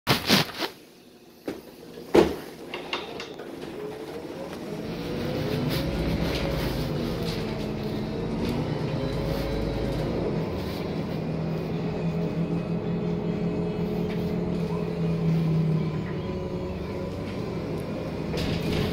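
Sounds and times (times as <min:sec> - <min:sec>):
bus engine running: 0:01.3 - 0:18.9.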